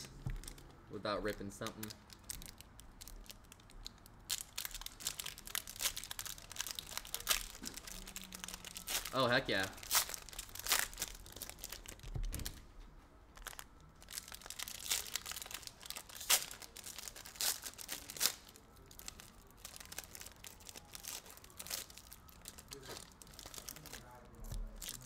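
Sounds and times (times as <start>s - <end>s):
foil wrappers tearing and crinkling: 1.2s - 12.6s, 13.4s - 25.0s.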